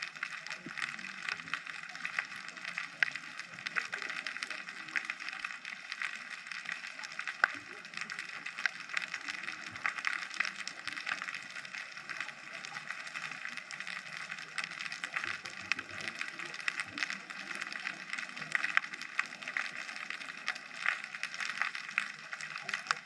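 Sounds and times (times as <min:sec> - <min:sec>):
underwater crackle of tiny clicks: 0:00.0 - 0:23.0.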